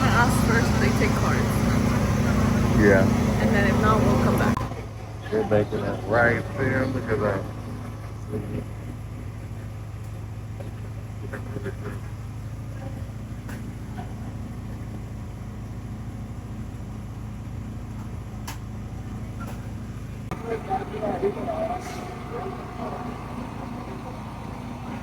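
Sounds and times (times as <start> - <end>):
low engine hum: 0.0 - 25.0.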